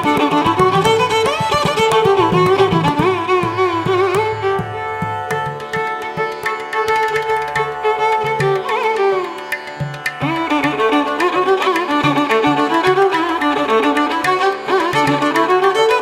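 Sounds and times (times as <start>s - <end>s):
violin melody: 0.0s - 16.0s.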